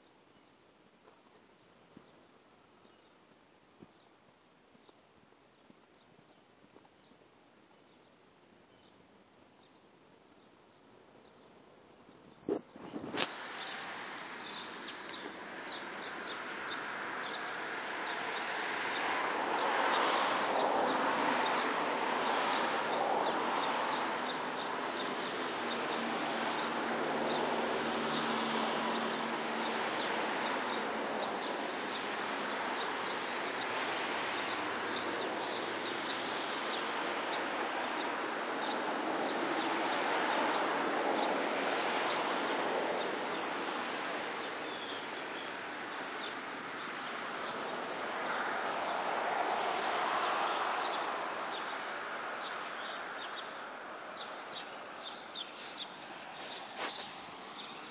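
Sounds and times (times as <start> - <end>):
outdoor background noise: 0.0 - 57.9.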